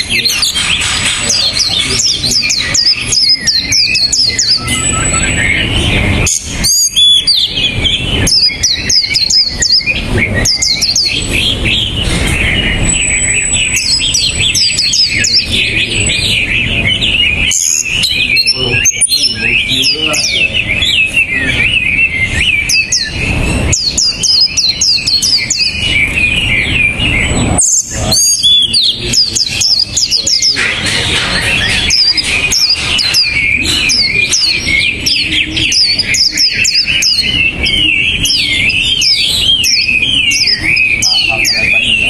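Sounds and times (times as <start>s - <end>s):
high whistled bird notes: 0.0s - 42.0s
songbird warbling: 0.0s - 42.0s.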